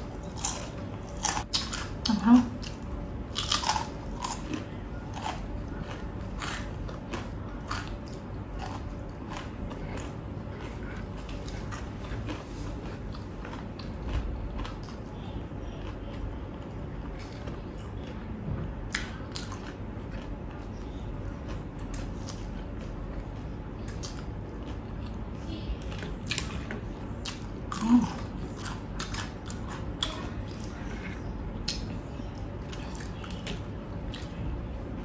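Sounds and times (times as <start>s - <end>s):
person chewing crunchy food: 0.0s - 34.8s.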